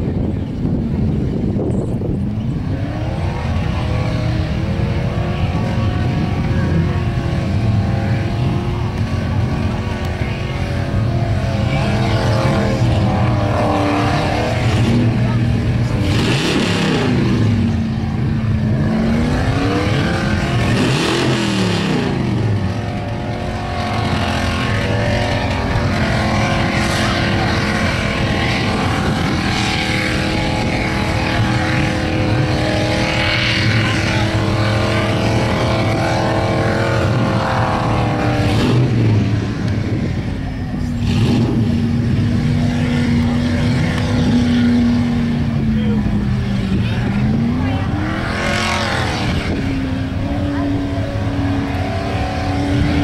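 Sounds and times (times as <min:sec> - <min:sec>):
car engine revving high: 0:00.0 - 0:53.0.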